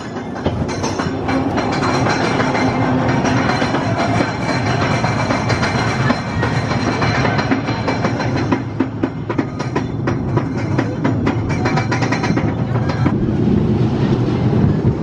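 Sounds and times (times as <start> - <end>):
roller coaster rumbling on track: 0.0 - 15.0
wheels rattling and clacking: 0.0 - 15.0.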